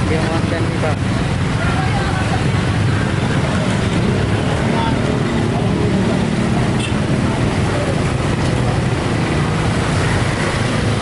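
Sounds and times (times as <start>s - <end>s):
road traffic din: 0.0s - 11.0s.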